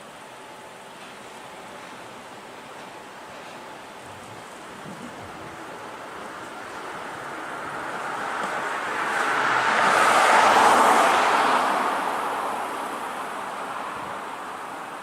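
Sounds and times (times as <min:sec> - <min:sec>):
vehicle tyre and road noise: 0:00.0 - 0:15.0.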